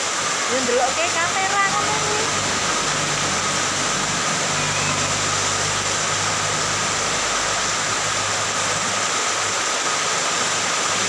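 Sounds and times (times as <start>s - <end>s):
rushing hiss: 0.0s - 11.0s
low engine-like hum: 0.7s - 11.0s.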